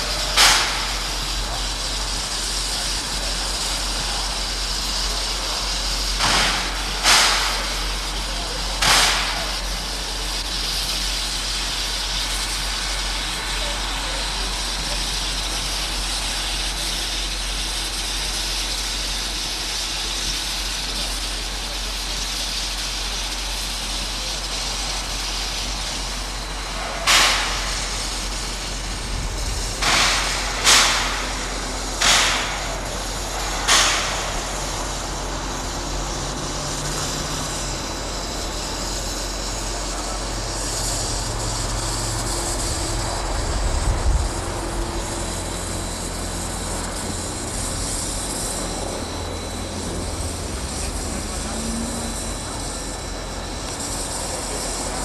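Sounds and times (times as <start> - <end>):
steam train running: 0.0 - 55.0.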